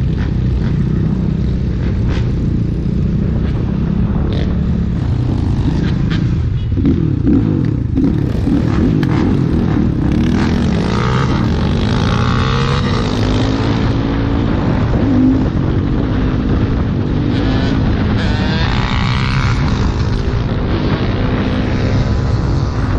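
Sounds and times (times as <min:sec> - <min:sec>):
motorcycle engines revving: 0:00.0 - 0:22.9
wind rumble on microphone: 0:00.0 - 0:22.9.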